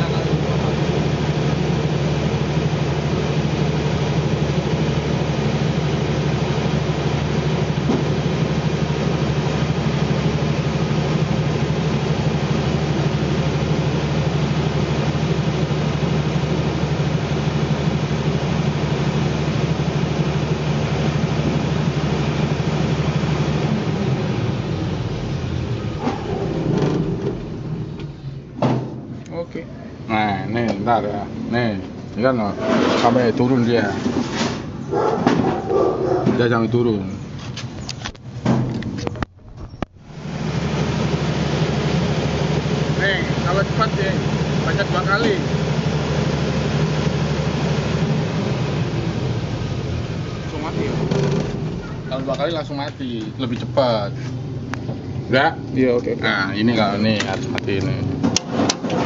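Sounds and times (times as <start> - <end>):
diesel generator engine running: 0.0 - 59.0.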